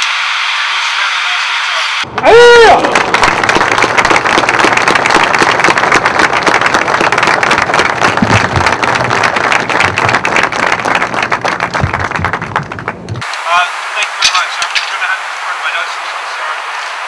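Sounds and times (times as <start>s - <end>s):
crowd applauding: 2.0s - 17.0s.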